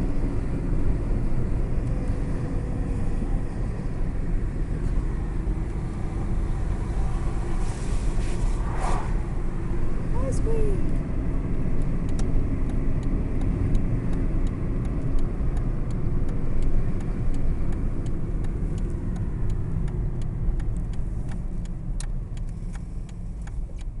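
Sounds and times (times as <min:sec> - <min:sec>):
engine and tyre rumble: 0:00.0 - 0:24.0.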